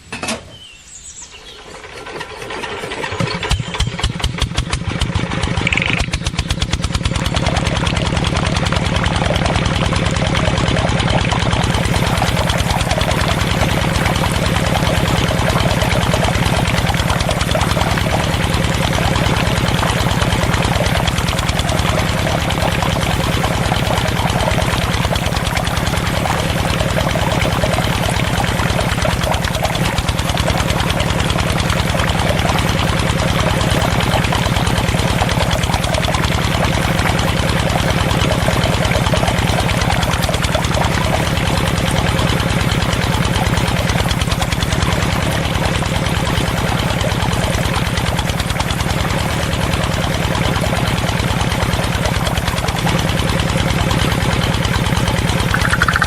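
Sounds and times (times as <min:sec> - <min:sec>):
small engine running: 0:01.2 - 0:56.0.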